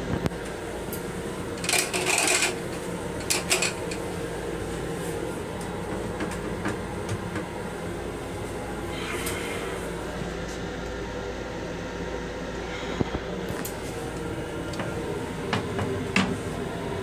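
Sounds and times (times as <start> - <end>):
electric railcar running noise: 0.0 - 17.0.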